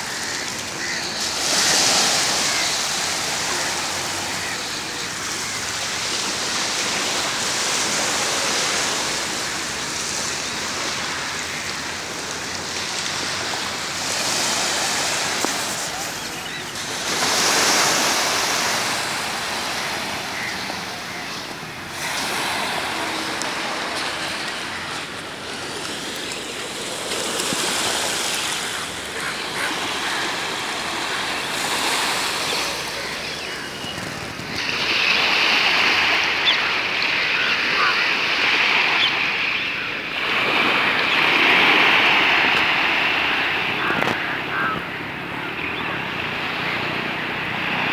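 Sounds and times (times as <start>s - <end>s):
waves washing onto beach: 0.0s - 47.9s.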